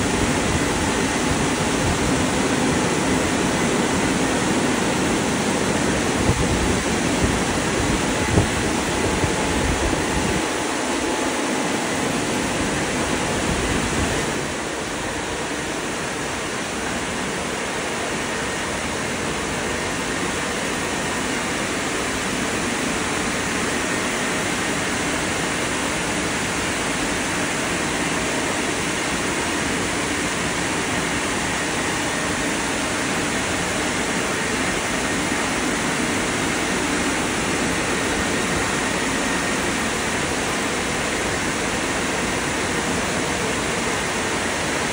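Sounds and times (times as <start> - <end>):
car wash drying blowers: 0.0 - 44.9.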